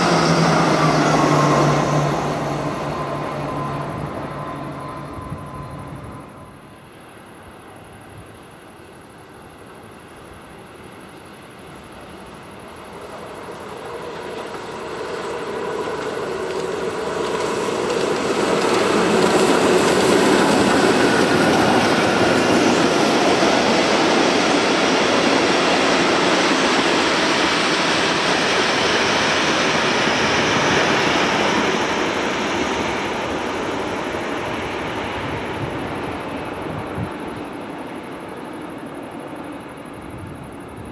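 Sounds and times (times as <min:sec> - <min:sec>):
train wheels rushing on rail: 0:00.0 - 0:40.9.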